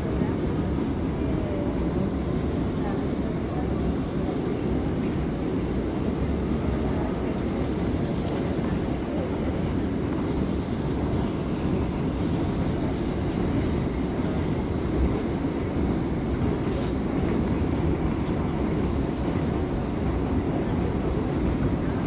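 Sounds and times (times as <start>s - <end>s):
subway wheels rumbling on rail: 0.0s - 22.0s.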